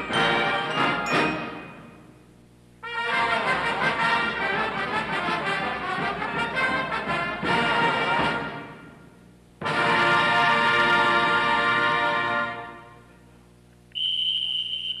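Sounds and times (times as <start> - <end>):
marching band brass playing: 0.0 - 2.0, 2.8 - 13.1.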